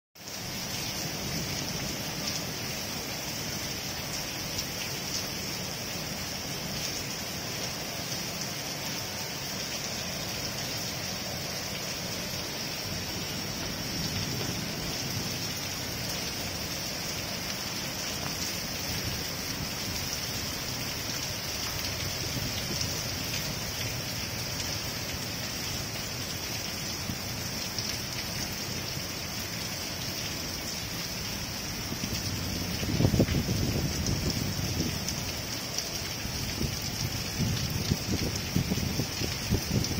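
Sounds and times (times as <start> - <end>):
rain on concrete rooftop: 0.2 - 39.9.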